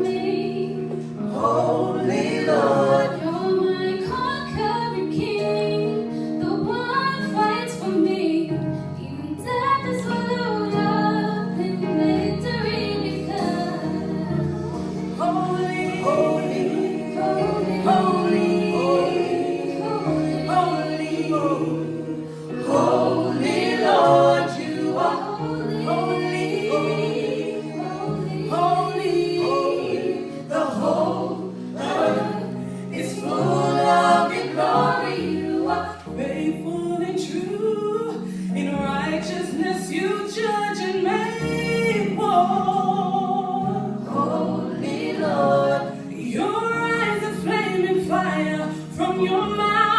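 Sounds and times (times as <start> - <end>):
choir singing gospel song: 0.0 - 6.2, 9.8 - 49.9.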